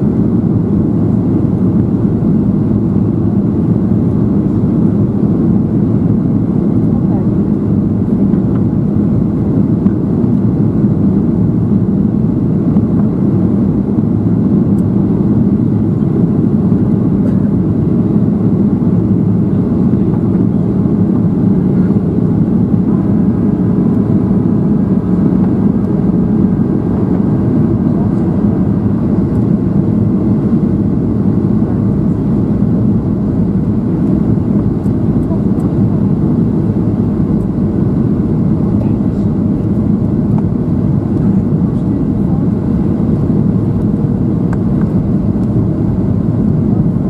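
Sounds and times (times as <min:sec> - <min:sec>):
faint steady whine: 0:00.0 - 0:47.0
jet engine low rumble: 0:00.0 - 0:47.0.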